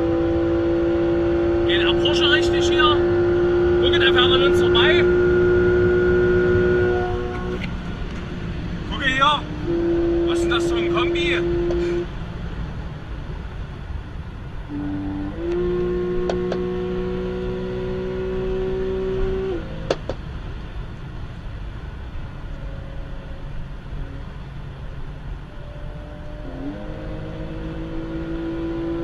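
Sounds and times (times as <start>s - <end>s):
car engine accelerating: 0.0s - 29.0s
road and wind rumble: 0.0s - 29.0s.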